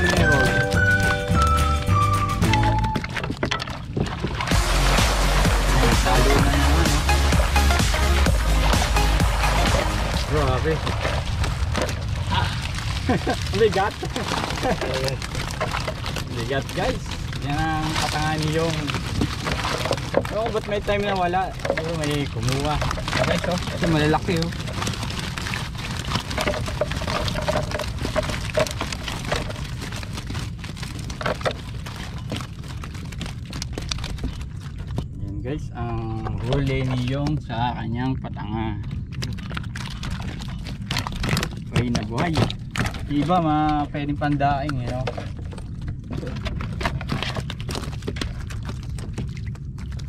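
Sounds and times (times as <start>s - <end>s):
fish flapping on wooden hull: 0.0s - 50.0s
low rumble: 0.0s - 50.0s.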